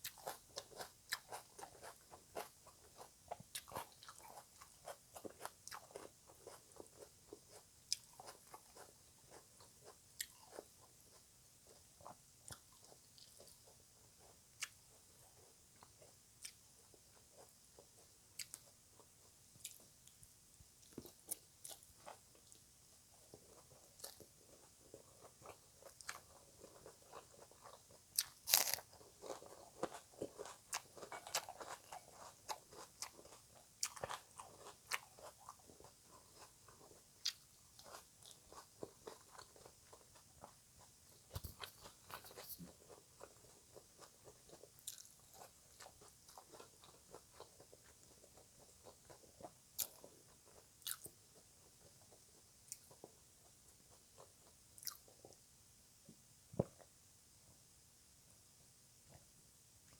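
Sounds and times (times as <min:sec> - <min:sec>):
crunchy salad chewing: 0:00.0 - 0:20.2, 0:20.8 - 0:55.4.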